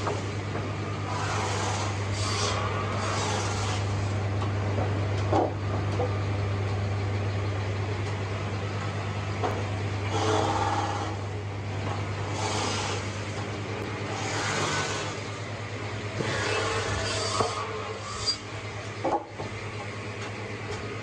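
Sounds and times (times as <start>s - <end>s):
sawmill machinery humming: 0.0s - 21.0s.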